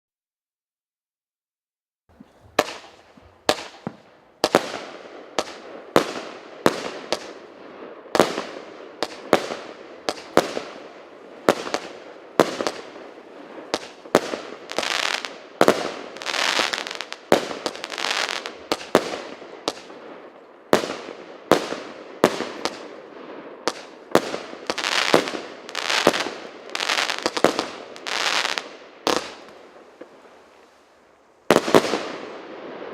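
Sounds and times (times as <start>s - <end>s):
fireworks bangs and crackling: 2.2s - 32.9s.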